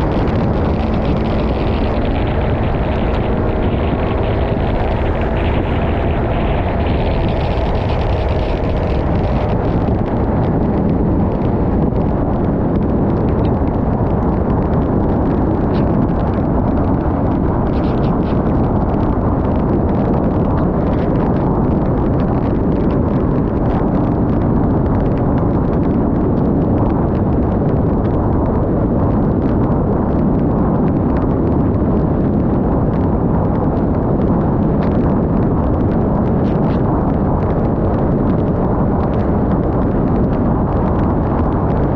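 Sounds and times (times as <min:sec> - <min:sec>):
loud wind rumble: 0:00.0 - 0:41.9.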